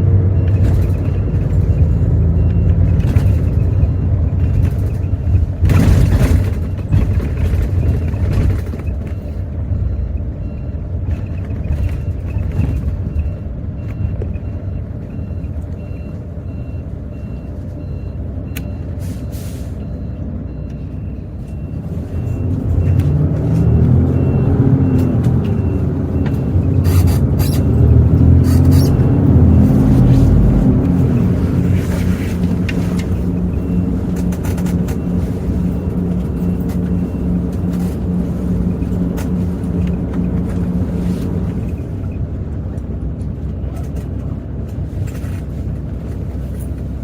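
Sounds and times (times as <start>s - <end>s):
bus diesel engine: 0.0s - 47.0s.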